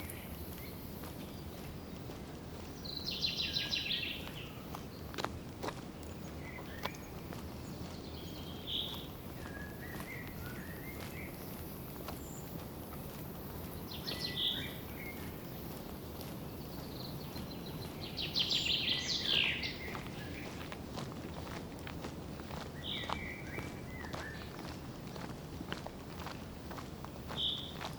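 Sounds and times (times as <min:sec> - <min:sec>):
birds chirping: 0:00.0 - 0:20.7, 0:22.7 - 0:25.3, 0:27.3 - 0:27.9
footsteps on trail: 0:00.0 - 0:27.9
low outdoor rush: 0:00.0 - 0:27.9.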